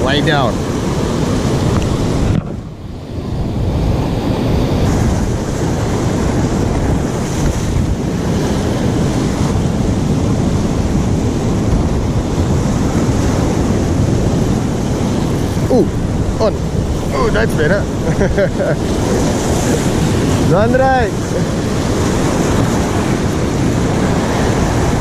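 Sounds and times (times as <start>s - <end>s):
sea surf washing over rocks: 0.0s - 25.0s
wind buffeting microphone: 0.0s - 25.0s.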